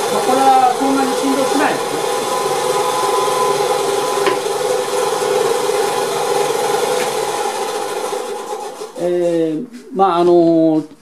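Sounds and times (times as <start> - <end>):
bandsaw running: 0.0 - 9.6.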